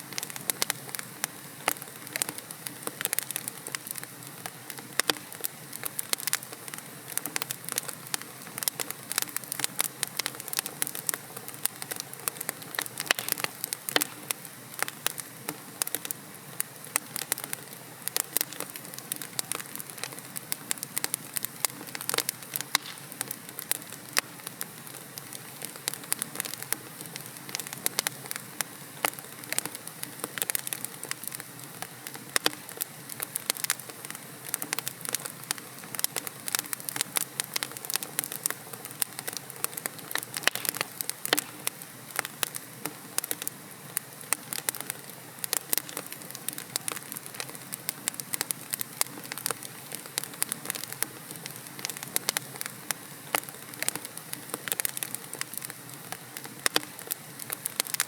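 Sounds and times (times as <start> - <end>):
fire crackles and pops: 0.0 - 58.0
hiss of flame: 0.0 - 58.0.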